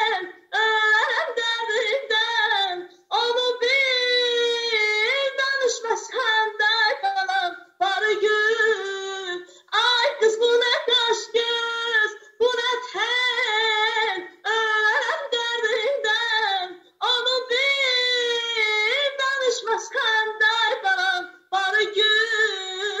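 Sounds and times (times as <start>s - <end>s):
woman singing unaccompanied: 0.0s - 23.0s.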